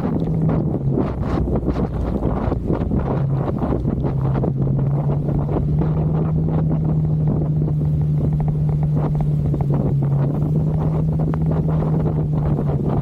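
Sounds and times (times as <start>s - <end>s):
motorcycle engine cruising: 0.0s - 13.0s
wind buffeting microphone: 0.0s - 13.0s.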